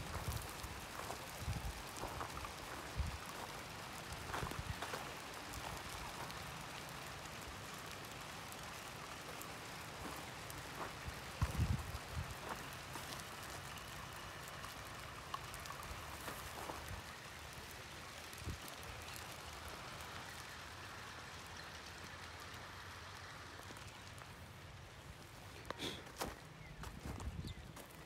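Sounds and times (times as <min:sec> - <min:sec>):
outdoor background hiss: 0:00.0 - 0:28.0
light ticks: 0:00.1 - 0:24.3.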